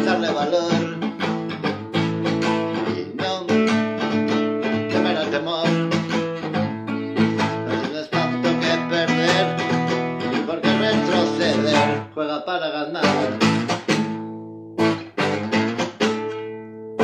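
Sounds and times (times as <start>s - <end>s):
classical guitar strumming chords: 0.0s - 12.2s, 12.9s - 17.0s.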